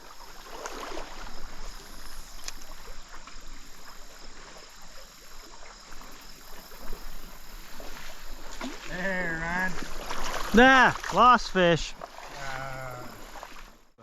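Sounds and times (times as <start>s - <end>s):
stream water sloshing and running: 0.0s - 14.0s.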